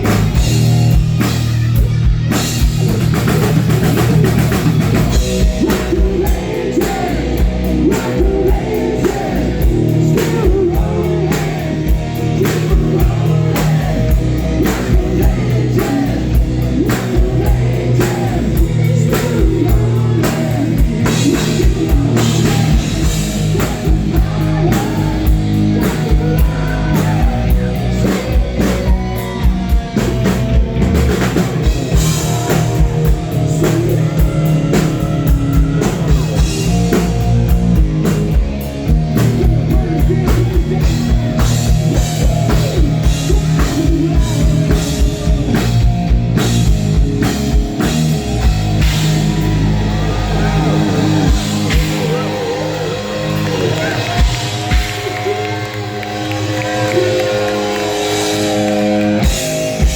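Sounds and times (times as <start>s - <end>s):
drum kit: 0.0s - 59.9s
guitar: 0.0s - 59.9s
live rock band playing: 0.0s - 59.9s
person singing: 4.0s - 29.7s, 30.8s - 37.9s, 38.9s - 45.9s, 48.9s - 58.7s.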